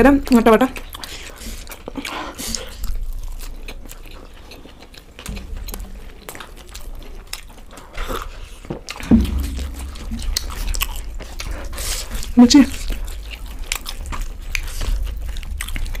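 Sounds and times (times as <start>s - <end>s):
people chewing food: 0.0s - 16.0s.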